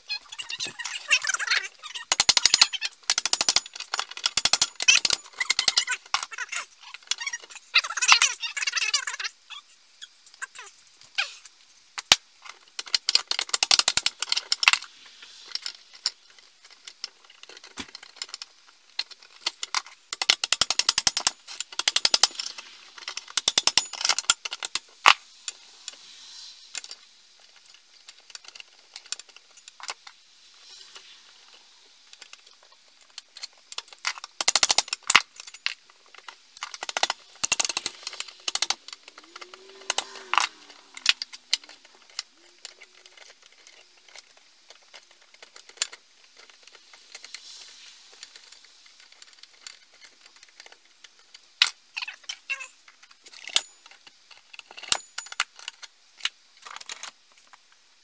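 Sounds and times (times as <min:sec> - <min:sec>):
rapid metallic clicking and rattling: 0:00.0 - 0:09.2, 0:10.2 - 0:26.0, 0:26.7 - 0:58.0.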